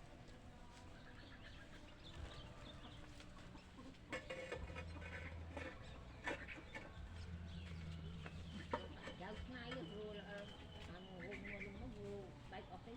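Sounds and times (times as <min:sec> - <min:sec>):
chickens clucking: 0:00.6 - 0:12.9.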